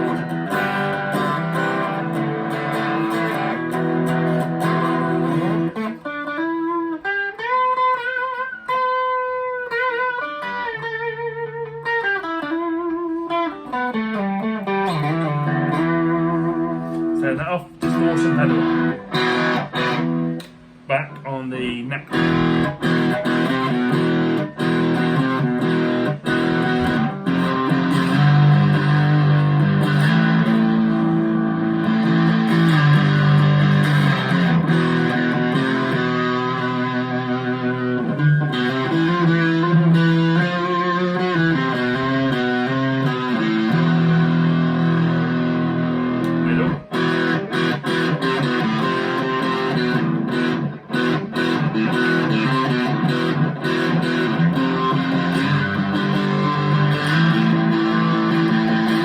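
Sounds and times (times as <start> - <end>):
electric guitar chords and lines: 0.0 - 59.0.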